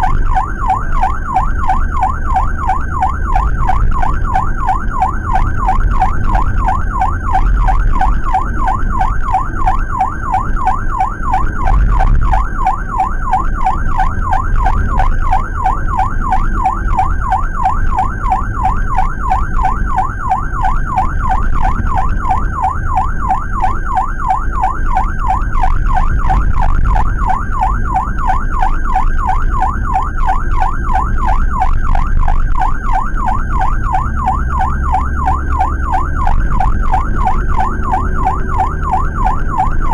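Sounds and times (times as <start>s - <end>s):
ambulance siren warbling: 0.0s - 39.9s
road rumble: 0.0s - 39.9s.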